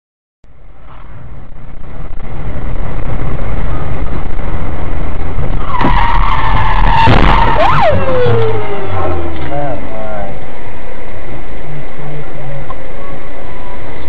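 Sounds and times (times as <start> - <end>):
car road and engine noise: 0.4 - 14.0.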